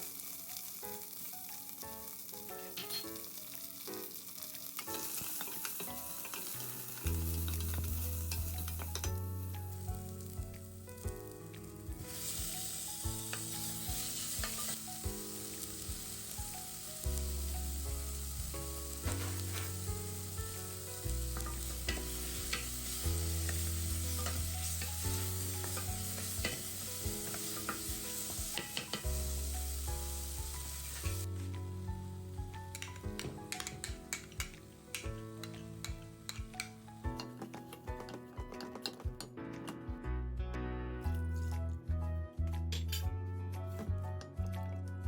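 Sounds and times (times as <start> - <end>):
food sizzling in hot oil: 0.0 - 37.7.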